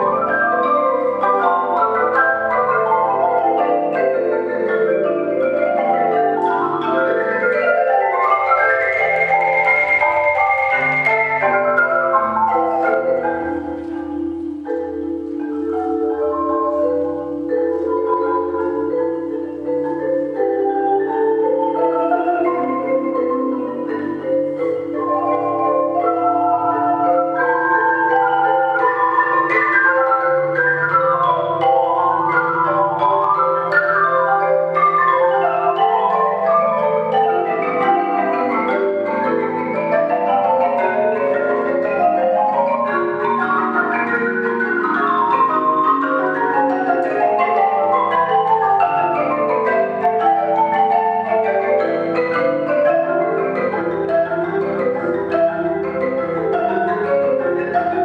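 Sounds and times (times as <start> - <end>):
held low marimba note: 0.0 - 58.0
marimbas playing: 0.0 - 58.0.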